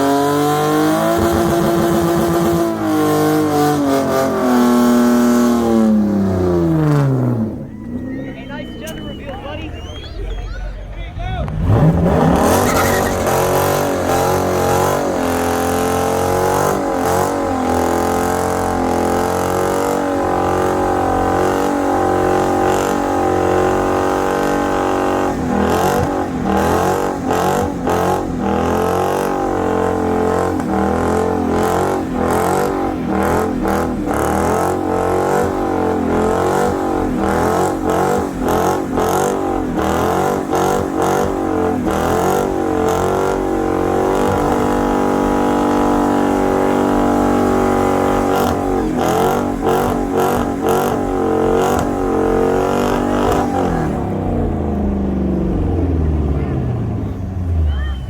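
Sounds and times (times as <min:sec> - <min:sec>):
car engine at high revs: 0:00.0 - 0:58.0.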